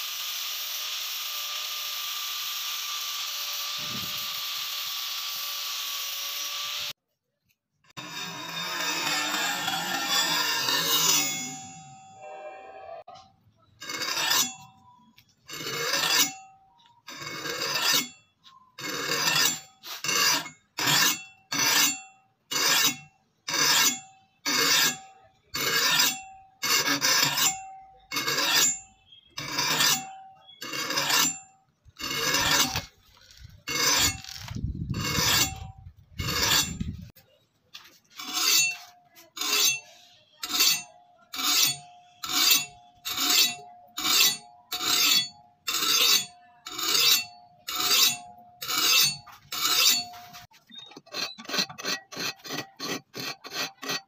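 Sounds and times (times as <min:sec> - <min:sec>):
file rasping on steel: 0:07.9 - 0:37.2, 0:37.8 - 0:54.0.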